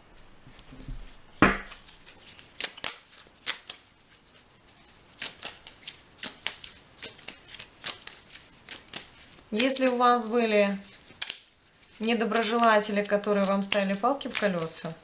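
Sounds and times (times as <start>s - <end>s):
cards being shuffled: 0.5s - 15.0s.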